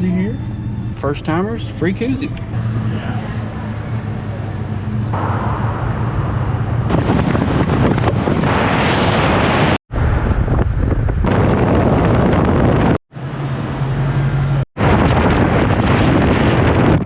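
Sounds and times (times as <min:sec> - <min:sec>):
wind buffeting microphone: 0:00.0 - 0:13.0, 0:14.8 - 0:17.0.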